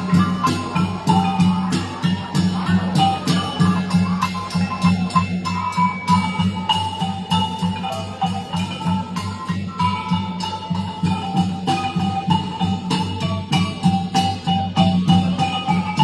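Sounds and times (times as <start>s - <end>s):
large gongs pulsing beat: 0.0s - 16.0s.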